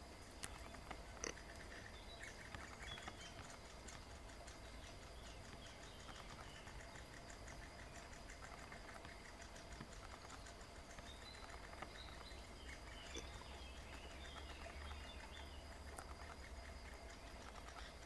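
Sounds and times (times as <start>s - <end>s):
woodpecker nestlings chirping: 0.0s - 18.0s.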